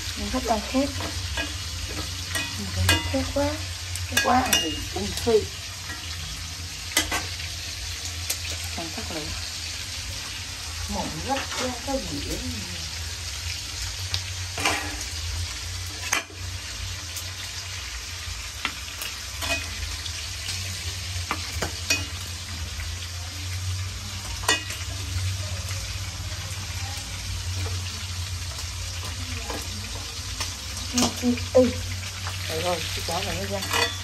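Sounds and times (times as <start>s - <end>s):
sausage frying in oil: 0.0s - 34.0s.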